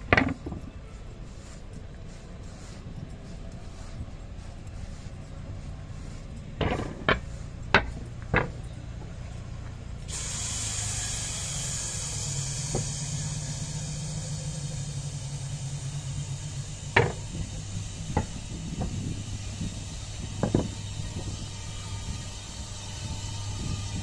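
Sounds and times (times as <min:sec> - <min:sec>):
electric train humming: 0:00.0 - 0:24.0
steady hiss: 0:00.0 - 0:24.0.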